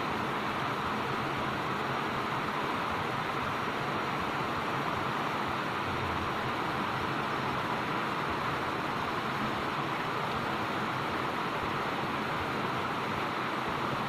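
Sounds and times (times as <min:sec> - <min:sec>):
water rushing over weir: 0:00.0 - 0:14.0.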